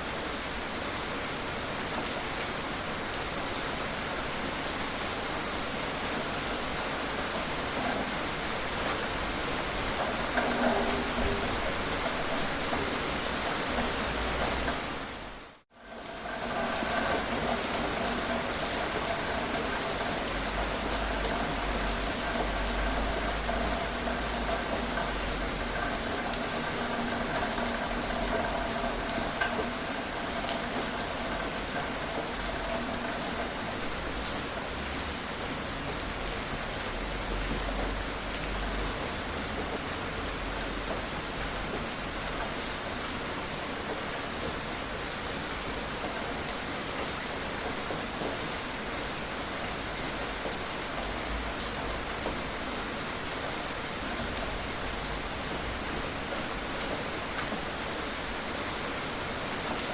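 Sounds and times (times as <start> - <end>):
gentle rain pattering: 0.0 - 59.9.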